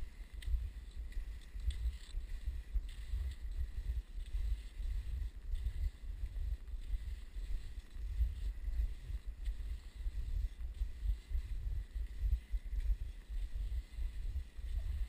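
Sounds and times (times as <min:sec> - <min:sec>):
skis gliding on snow: 0:00.0 - 0:15.0
wind buffeting microphone: 0:00.0 - 0:15.0.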